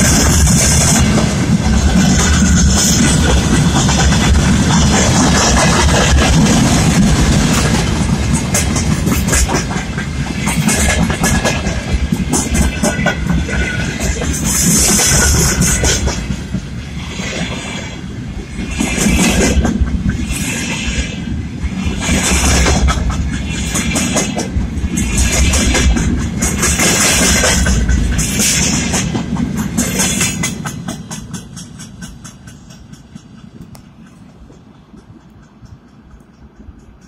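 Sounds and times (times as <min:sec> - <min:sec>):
train wheels clattering over rail joints: 0:00.0 - 0:37.0.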